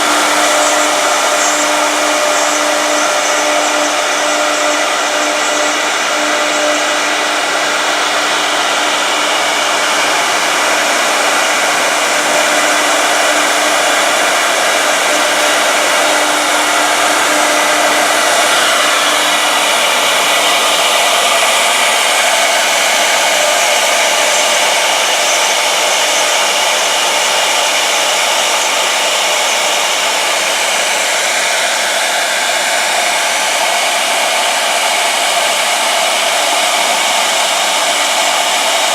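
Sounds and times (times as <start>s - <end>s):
low machine tone: 0.0s - 38.9s
router machine whine: 0.0s - 38.9s.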